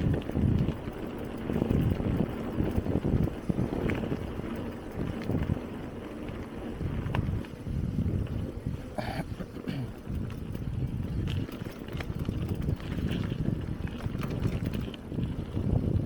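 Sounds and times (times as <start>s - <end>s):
bicycle tyres rolling on dirt: 0.0s - 16.0s
wind buffeting microphone: 0.0s - 16.0s.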